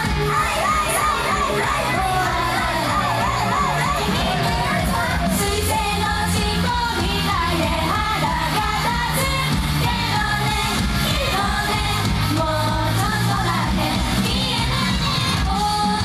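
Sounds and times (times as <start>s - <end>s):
girls singing: 0.0s - 16.0s
pop backing track: 0.0s - 16.0s.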